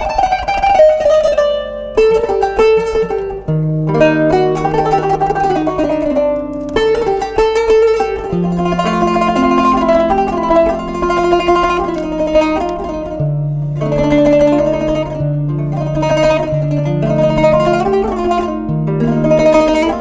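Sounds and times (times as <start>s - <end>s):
plucked zither notes: 0.0s - 20.0s.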